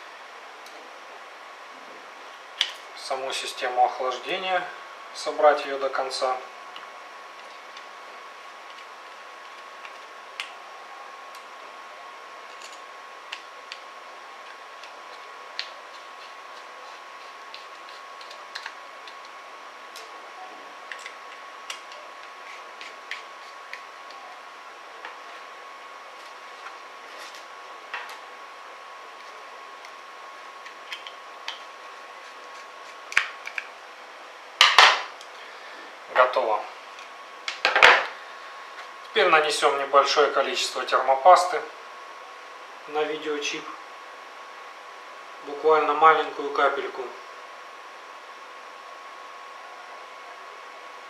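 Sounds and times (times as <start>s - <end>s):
faint background whine: 0.0s - 51.0s.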